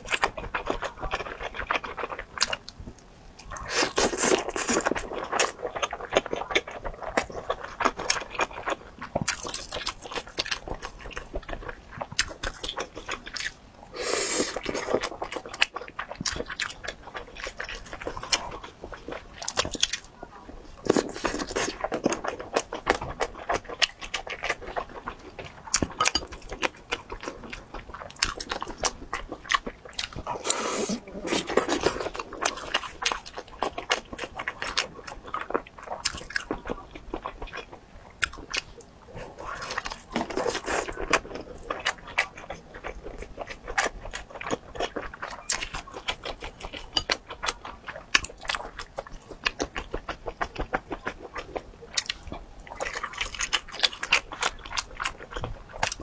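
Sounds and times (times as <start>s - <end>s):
close-miked chewing: 0.0s - 56.0s.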